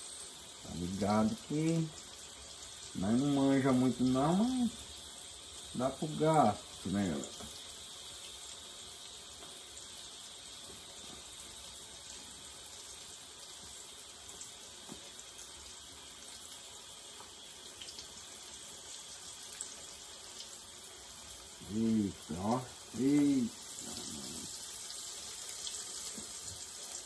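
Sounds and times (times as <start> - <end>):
food sizzling in oil: 0.0 - 27.0.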